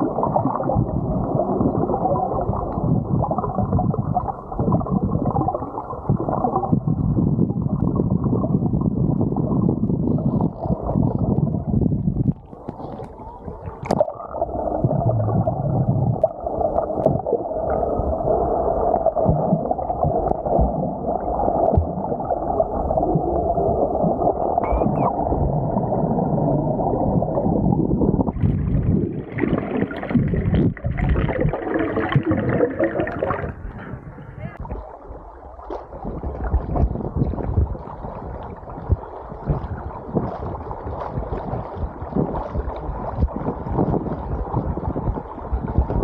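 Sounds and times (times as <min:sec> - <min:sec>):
muffled underwater water gurgling: 0:00.0 - 0:46.0.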